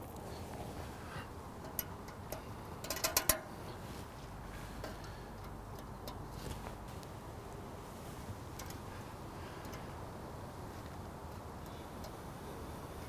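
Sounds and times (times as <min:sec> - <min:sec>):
light metallic clicks: 0:01.2 - 0:13.0.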